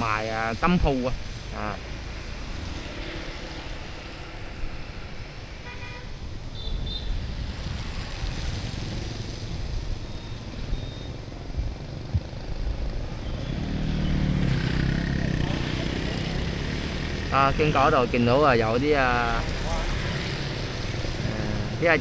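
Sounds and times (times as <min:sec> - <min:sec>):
traffic on wet street: 0:00.0 - 0:22.0.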